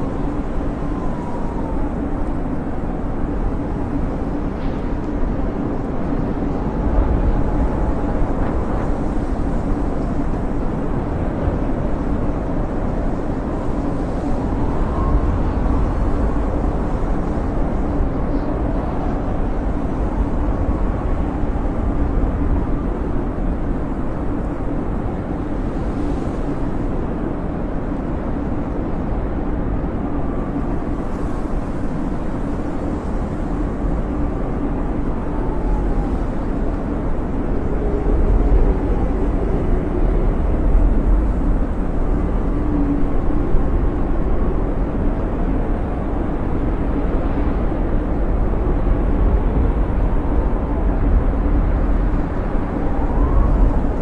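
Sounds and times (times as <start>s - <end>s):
wind roaring: 0.0s - 54.0s
wind whistling: 0.0s - 54.0s.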